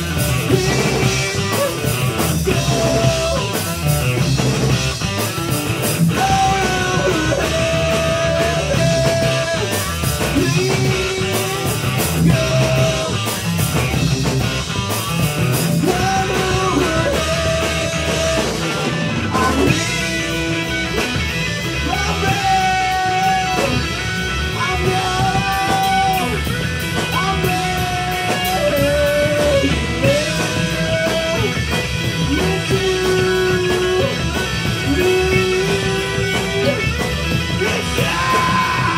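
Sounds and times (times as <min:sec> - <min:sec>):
bass: 0:00.0 - 0:38.9
distorted electric guitar: 0:00.0 - 0:38.9
drums with cymbals: 0:00.0 - 0:38.9.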